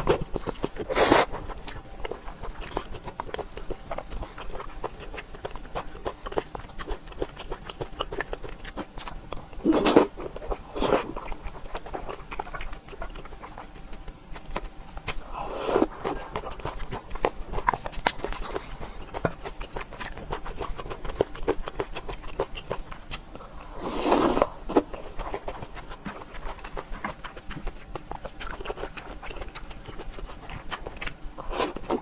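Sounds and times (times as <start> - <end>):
person chewing and lip-smacking: 0.0 - 32.0.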